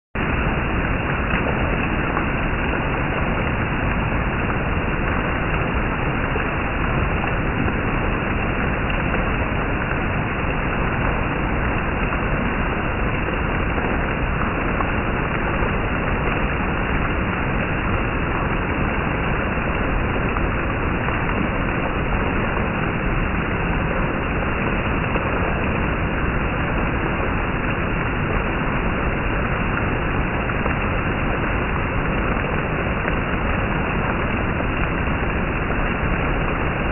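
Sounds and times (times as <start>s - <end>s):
steady heavy rain: 0.2s - 36.9s.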